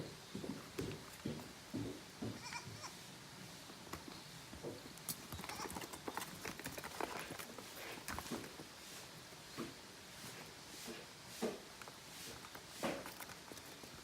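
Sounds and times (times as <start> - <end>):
hooves clattering: 0.0 - 14.0.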